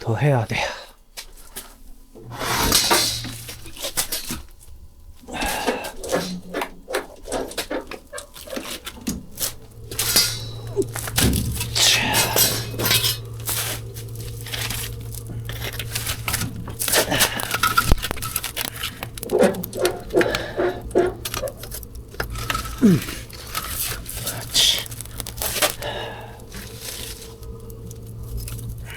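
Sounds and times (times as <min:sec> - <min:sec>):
steady low hum: 0:00.0 - 0:28.9
firewood logs knocking: 0:05.4 - 0:28.9.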